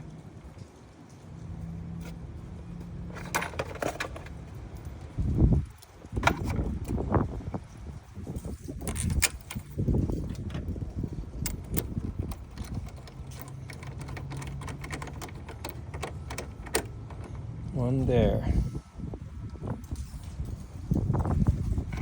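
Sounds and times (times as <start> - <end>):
metal clinks and knocks: 0.6 - 7.1, 8.2 - 18.1, 19.8 - 22.0.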